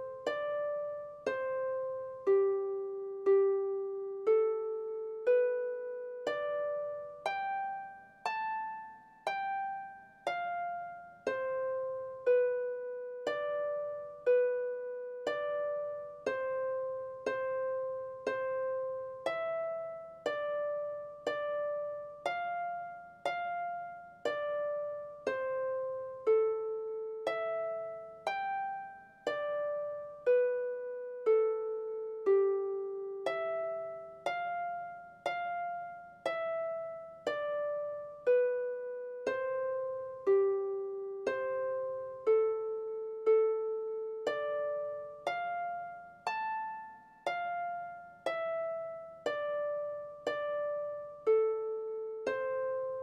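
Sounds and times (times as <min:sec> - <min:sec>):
slow gentle melody: 0:00.0 - 0:53.0.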